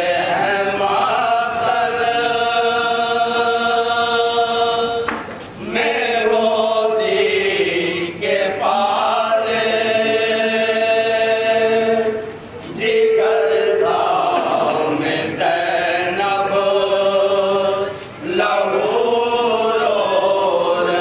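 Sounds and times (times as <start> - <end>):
men chanting a lament: 0.0 - 21.0.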